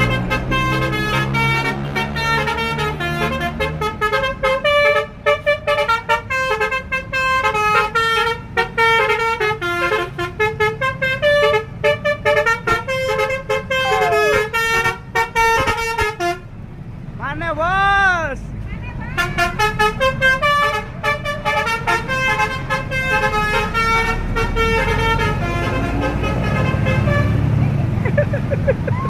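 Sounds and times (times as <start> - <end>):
musical horn playing melody: 0.0 - 16.5, 19.2 - 27.6.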